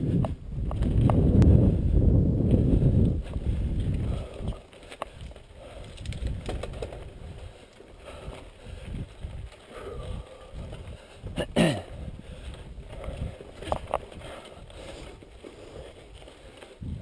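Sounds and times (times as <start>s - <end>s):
bike rattling: 0.0s - 17.0s
bike tyres crunching over dirt: 0.0s - 17.0s.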